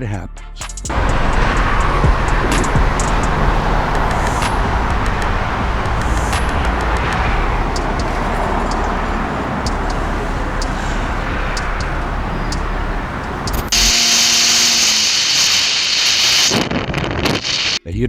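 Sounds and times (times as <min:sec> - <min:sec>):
vehicle road noise rumble: 0:00.9 - 0:16.7
wind hiss on microphone: 0:00.9 - 0:17.8.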